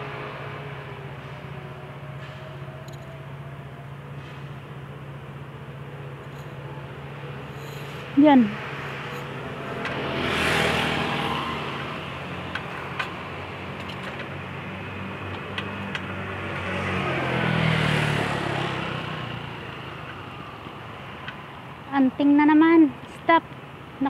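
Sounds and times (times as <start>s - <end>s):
low engine hum: 0.0s - 24.0s
motor vehicles passing: 0.0s - 24.0s.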